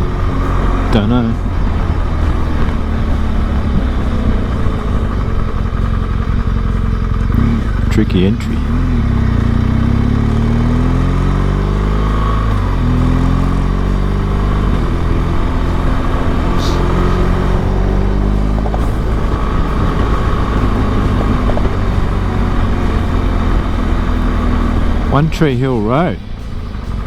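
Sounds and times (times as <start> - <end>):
motorcycle engine running: 0.0 - 27.0
road noise: 0.0 - 27.0
wind noise: 0.0 - 27.0.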